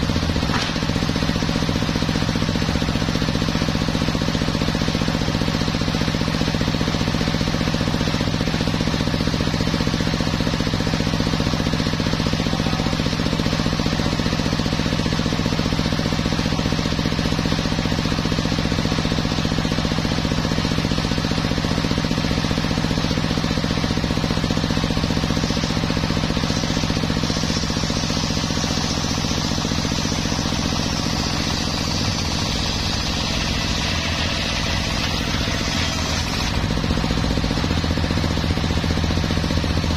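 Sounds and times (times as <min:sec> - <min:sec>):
circular saw cutting logs: 0:00.0 - 0:39.9.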